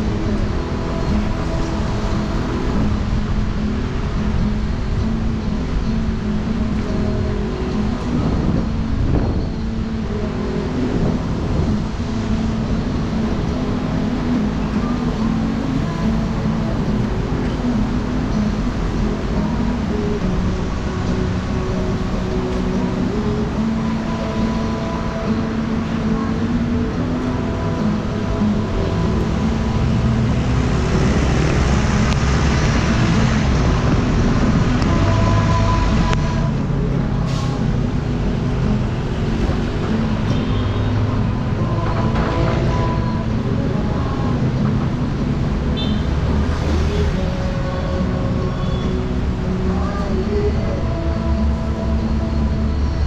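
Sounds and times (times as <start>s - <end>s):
road noise: 0.0s - 53.0s
traffic rushing noise: 0.0s - 53.0s
vehicle engines humming: 0.0s - 53.0s
wind on microphone: 0.0s - 53.0s.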